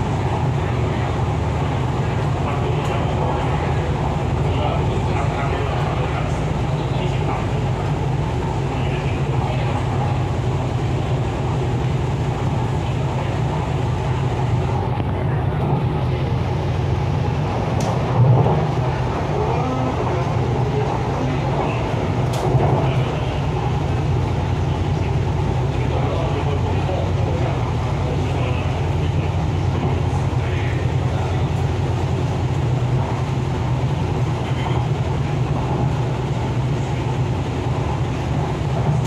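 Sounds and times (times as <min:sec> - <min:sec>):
train running heard on board: 0:00.0 - 0:39.0.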